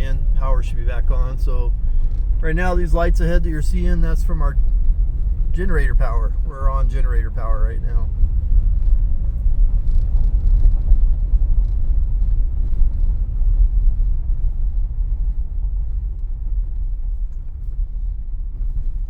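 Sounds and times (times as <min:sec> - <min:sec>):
vehicle driving on rough road: 0:00.0 - 0:19.0.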